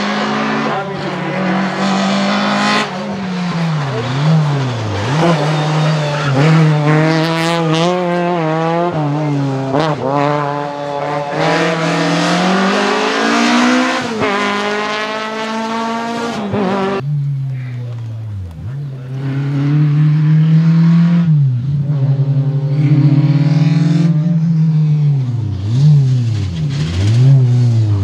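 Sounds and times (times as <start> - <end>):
rally engine accelerating hard: 0.0 - 28.0.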